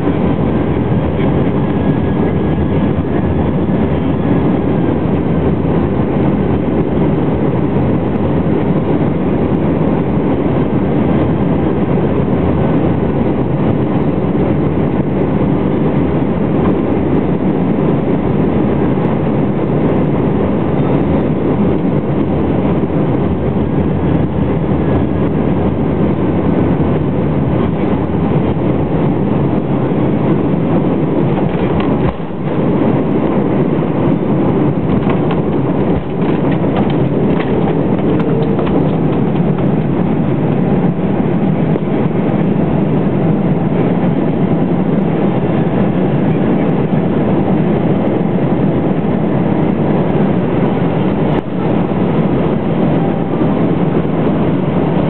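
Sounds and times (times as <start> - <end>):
airliner cabin engine and airflow rush: 0.0 - 55.0.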